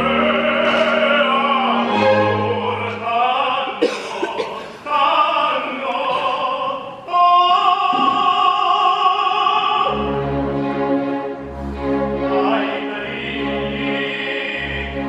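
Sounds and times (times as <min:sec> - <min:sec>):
orchestra: 0:00.0 - 0:15.0
tenor singing: 0:00.0 - 0:15.0.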